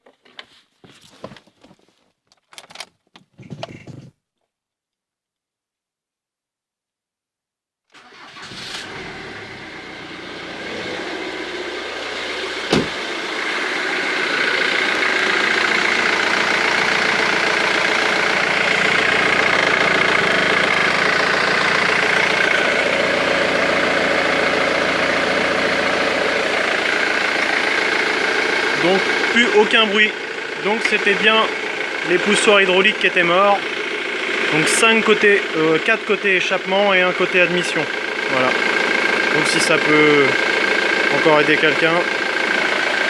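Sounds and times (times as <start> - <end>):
diesel engine idling: 8.0 - 43.0.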